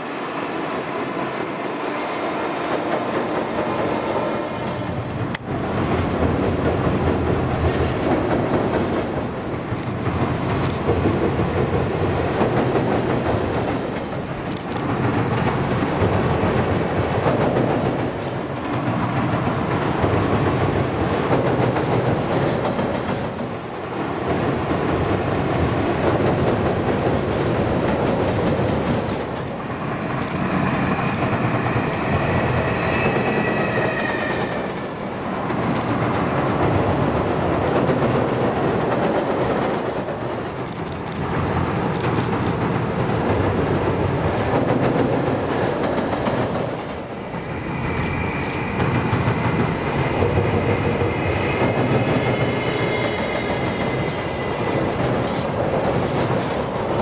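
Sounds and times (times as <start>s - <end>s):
electric locomotive running: 2.6s - 36.4s, 45.0s - 57.0s
wheels on rail: 2.6s - 57.0s.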